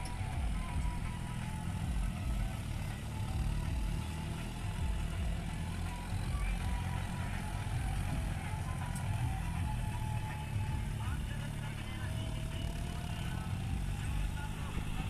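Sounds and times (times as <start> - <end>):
diesel tractor engine under load: 0.0 - 15.0.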